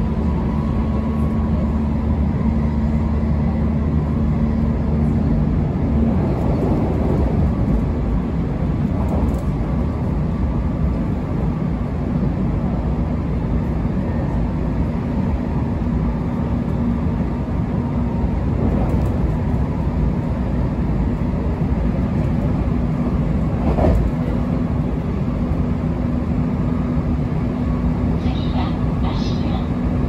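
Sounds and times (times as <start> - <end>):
constant low hum: 0.0 - 30.0
rumble of wheels on rail: 0.0 - 30.0.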